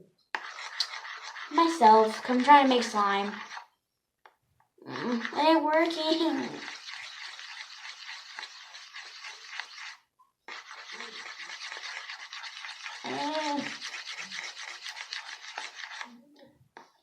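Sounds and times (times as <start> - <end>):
slime being stirred: 0.4 - 3.8, 4.8 - 16.2.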